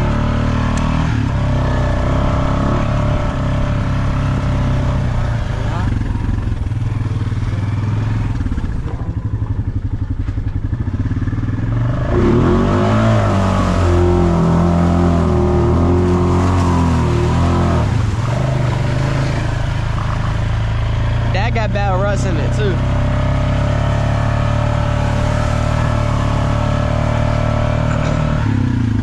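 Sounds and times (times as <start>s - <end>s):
vehicle engine idling and revving: 0.0s - 29.0s.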